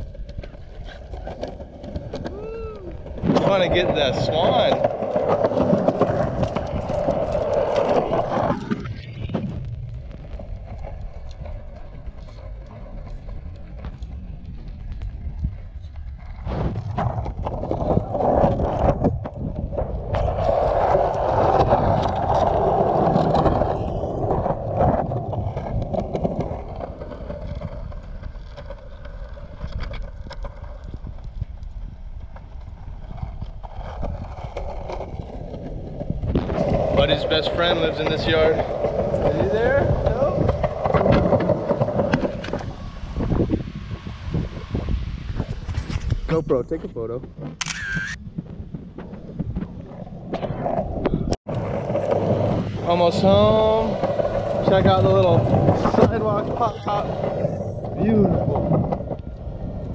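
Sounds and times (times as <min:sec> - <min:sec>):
skateboard wheels rolling on concrete: 0:00.0 - 0:59.9.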